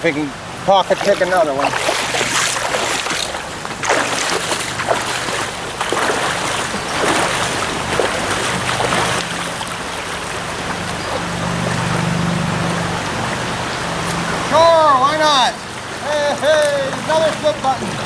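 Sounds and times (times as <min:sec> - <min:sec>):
stream water rushing and splashing: 0:00.0 - 0:18.0.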